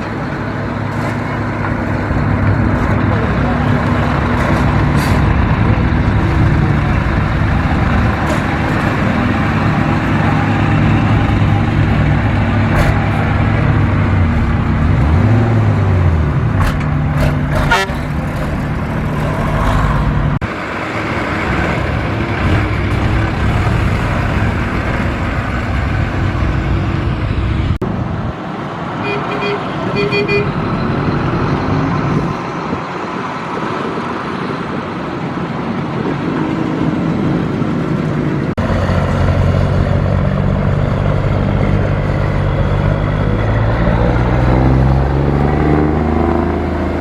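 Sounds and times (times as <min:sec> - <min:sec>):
engine revving: 0:00.0 - 0:32.7, 0:38.4 - 0:47.0
vehicle engines running: 0:00.0 - 0:47.0.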